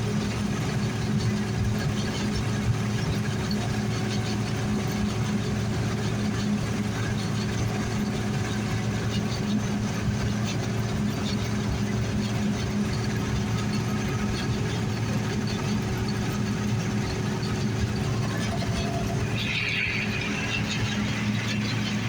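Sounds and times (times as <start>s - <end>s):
combine engine drone: 0.0s - 22.0s
threshing machinery noise: 0.0s - 22.0s.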